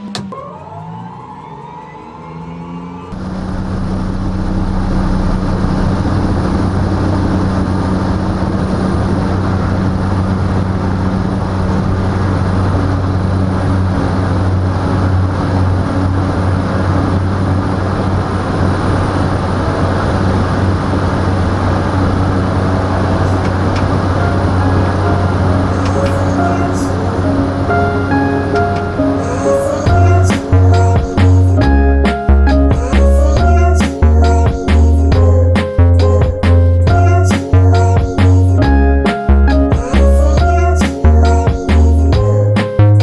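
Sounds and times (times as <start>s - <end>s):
rushing noise: 0.0s - 43.0s
vehicle engine drone: 0.0s - 43.0s.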